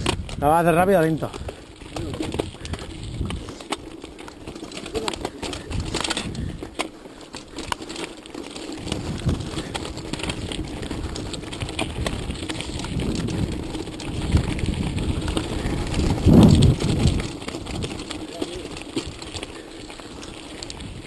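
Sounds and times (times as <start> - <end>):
mountain bike rattling on stony track: 0.0 - 21.0.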